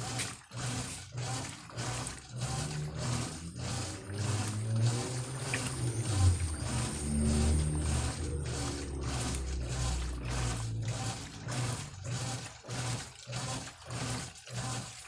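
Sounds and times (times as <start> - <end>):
washing machine motor humming: 0.0 - 15.0
water and clothes sloshing: 0.0 - 15.0.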